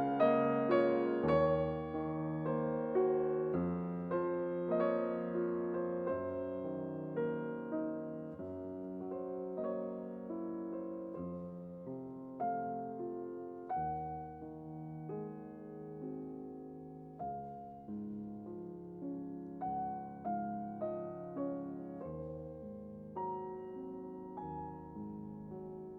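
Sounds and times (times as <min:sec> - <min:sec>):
soft piano music: 0:00.0 - 0:25.9.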